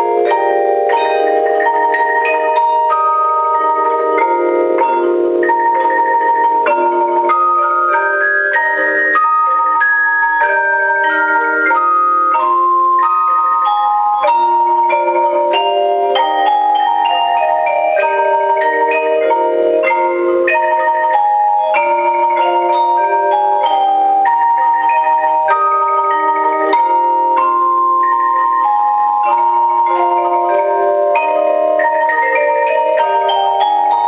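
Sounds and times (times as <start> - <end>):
tuned mallet percussion melody: 0.0 - 34.0.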